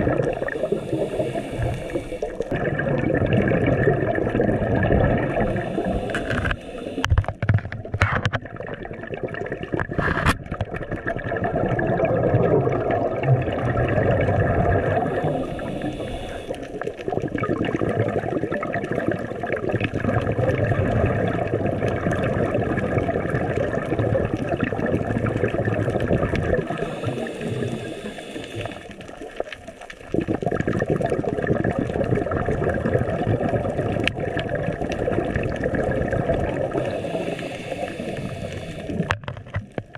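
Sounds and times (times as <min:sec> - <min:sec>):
underwater rush of water: 0:00.0 - 0:39.9.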